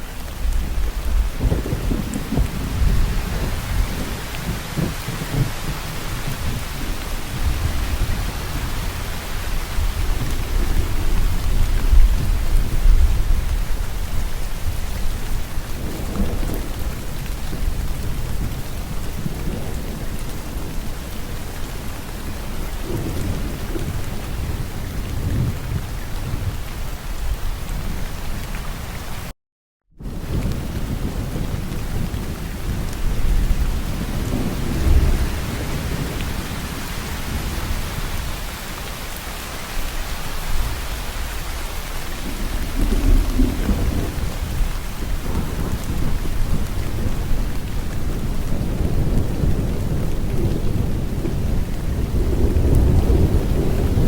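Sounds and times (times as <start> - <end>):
low thunder rumbling: 0.0 - 28.8, 30.0 - 39.2, 39.8 - 54.0
steady rain falling: 0.0 - 29.3, 30.0 - 54.0.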